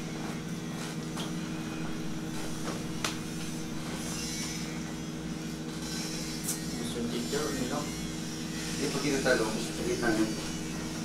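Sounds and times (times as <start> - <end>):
machine droning hum: 0.0 - 11.0.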